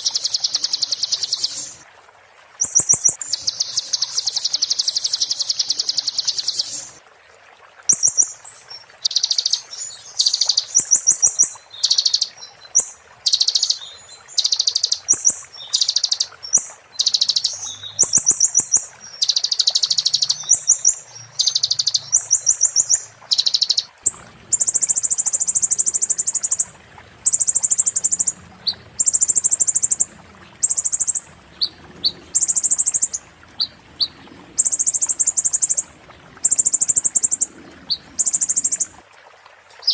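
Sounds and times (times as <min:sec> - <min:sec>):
songbird singing trills: 0:00.0 - 0:01.8, 0:02.6 - 0:07.0, 0:07.9 - 0:08.4, 0:09.0 - 0:39.0.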